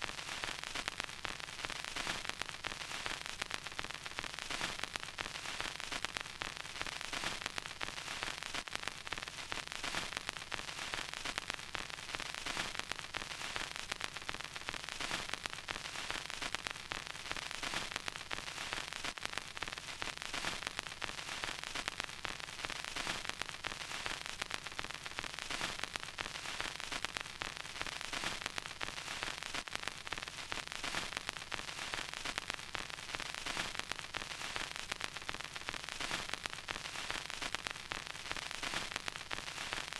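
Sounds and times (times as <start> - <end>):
vinyl record crackle: 0.0 - 39.9.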